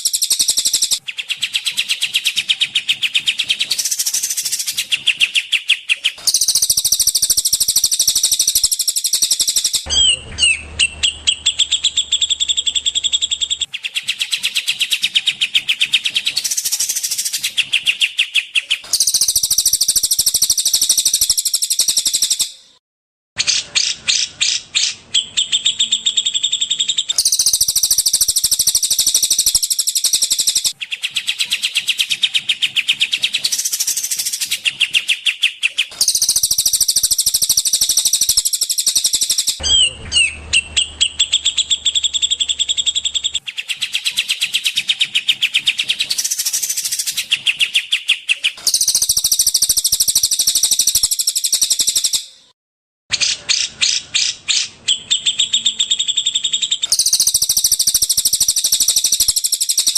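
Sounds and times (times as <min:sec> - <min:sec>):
songbird trilling and chattering: 0:00.0 - 0:22.6, 0:23.8 - 0:52.3, 0:53.2 - 0:59.9.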